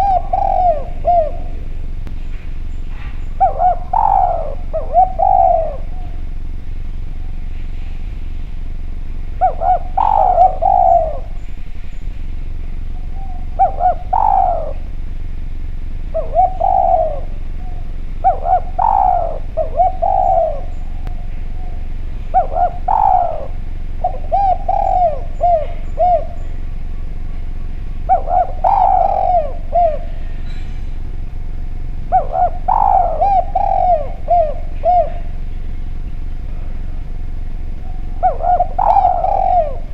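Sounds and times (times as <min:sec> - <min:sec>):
dove cooing: 0:00.0 - 0:39.9
low hum: 0:00.0 - 0:39.9.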